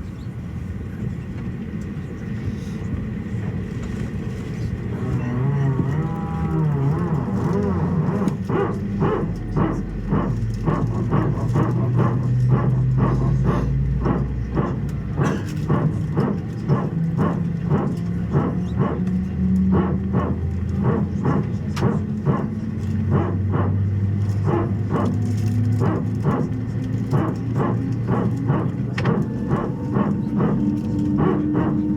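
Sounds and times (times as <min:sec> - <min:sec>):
airplane engine hum in cabin: 0:00.0 - 0:31.9.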